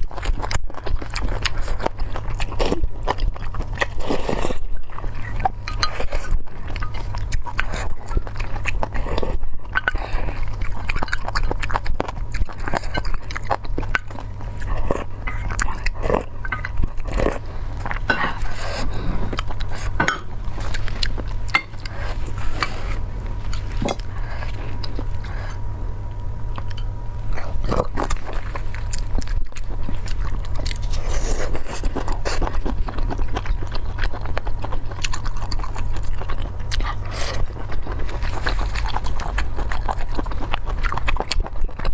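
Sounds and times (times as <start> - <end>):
person chewing crunchy food: 0.0 - 41.9
steady low hum: 0.0 - 41.9.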